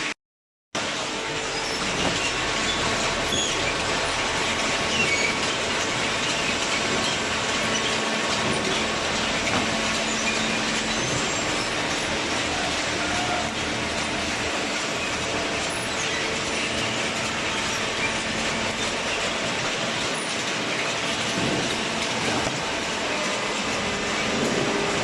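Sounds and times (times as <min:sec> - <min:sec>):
machinery clattering and hissing: 0:00.8 - 0:25.0.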